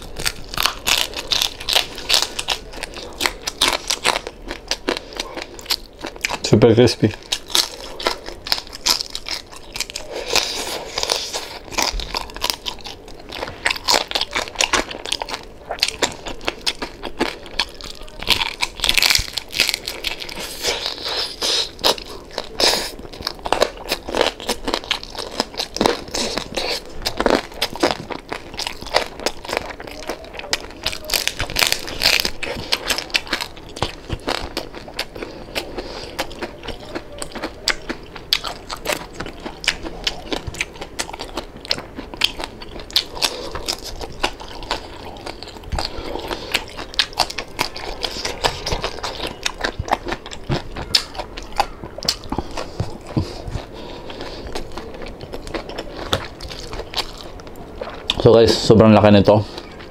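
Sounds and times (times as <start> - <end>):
chewing: 0.0 - 58.8
crispy skin crunching: 0.0 - 59.9.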